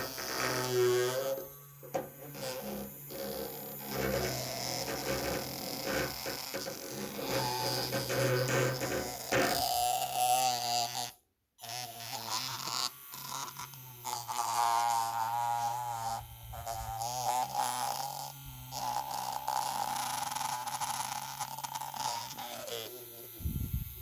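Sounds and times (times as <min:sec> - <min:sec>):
electric toothbrush buzzing: 0:00.0 - 0:24.0.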